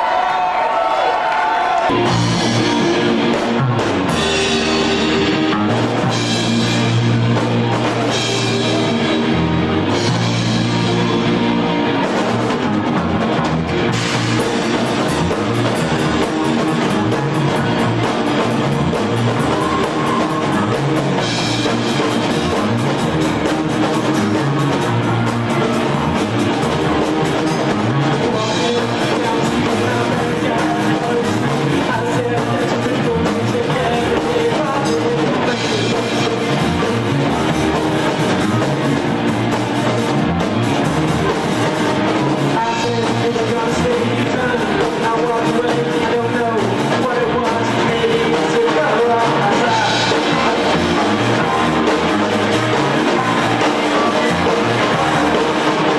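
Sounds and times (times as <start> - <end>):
distorted electric guitars: 1.8 - 55.9
drum kit beat: 1.8 - 55.9
held low bass notes: 1.9 - 55.9.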